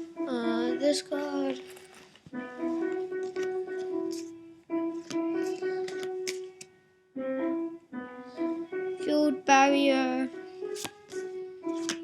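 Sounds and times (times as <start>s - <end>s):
slow keyboard melody: 0.0s - 12.0s.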